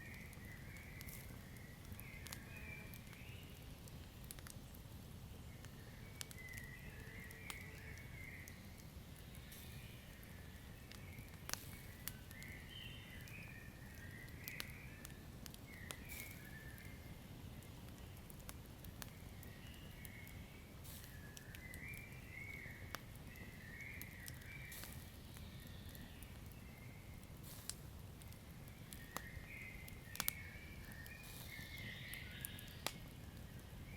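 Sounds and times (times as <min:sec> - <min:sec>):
wood fire crackling and popping: 0:00.0 - 0:33.9.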